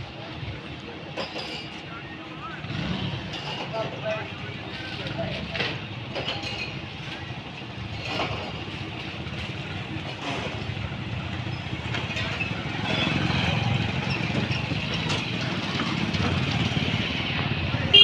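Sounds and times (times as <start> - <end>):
roadside noise: 0.0 - 18.0
vehicle engine running: 2.3 - 18.0.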